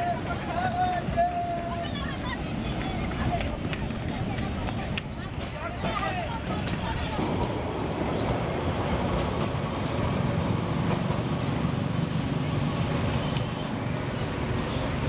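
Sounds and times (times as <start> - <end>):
road vehicles: 0.0 - 15.0
tram running on tracks: 0.0 - 15.0.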